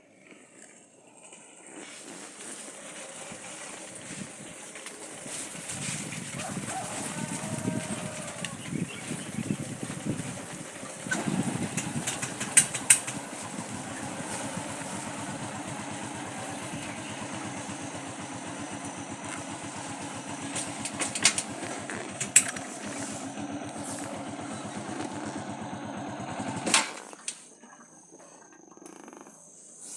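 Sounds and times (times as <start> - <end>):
motorcycle engine running: 0.4 - 27.5.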